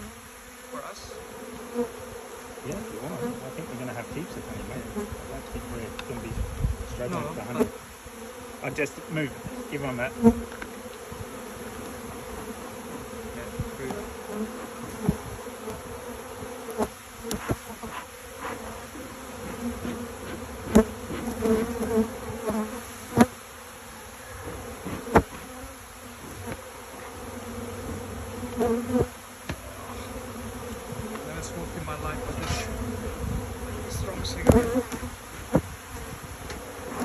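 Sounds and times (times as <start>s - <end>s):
bees buzzing: 0.0s - 37.0s.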